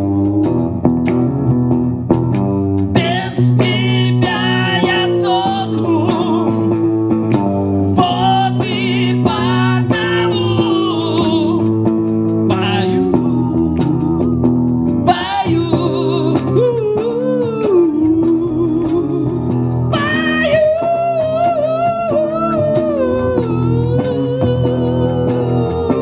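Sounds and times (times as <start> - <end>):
bass guitar: 0.0 - 26.0
electric guitar: 0.0 - 26.0
person singing: 3.0 - 6.8, 7.8 - 26.0.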